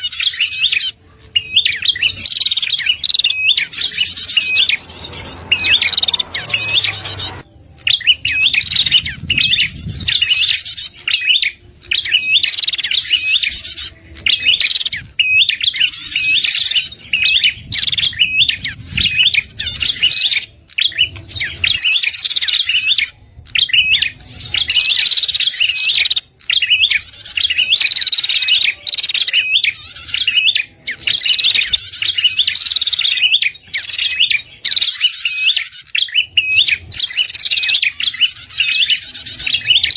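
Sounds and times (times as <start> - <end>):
bird chirping calls: 0.0 - 18.6, 23.5 - 39.9.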